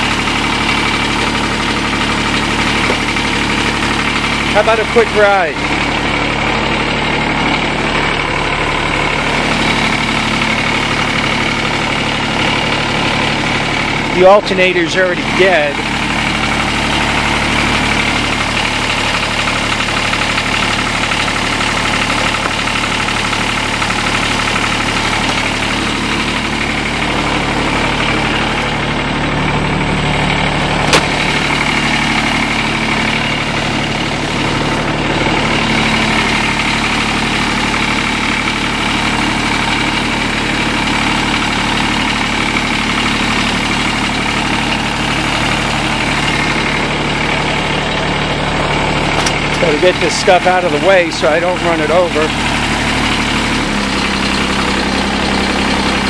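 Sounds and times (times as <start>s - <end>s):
diesel mower engine running: 0.0s - 56.0s.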